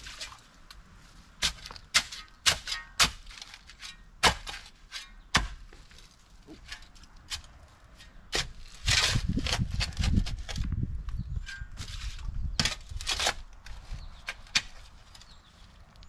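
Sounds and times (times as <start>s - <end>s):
soil scraping and rustling: 0.0s - 16.0s
digging tool striking dirt: 1.4s - 15.4s.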